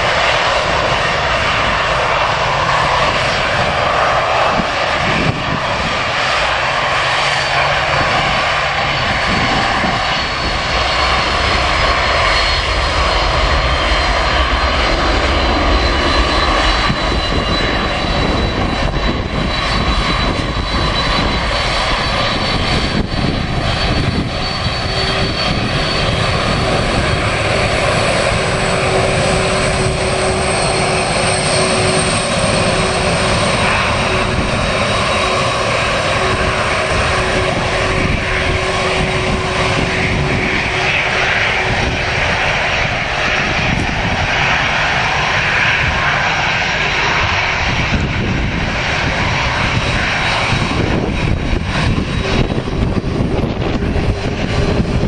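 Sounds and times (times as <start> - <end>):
high whining engine tones: 0.0 - 55.0
jet engines running: 0.0 - 55.0.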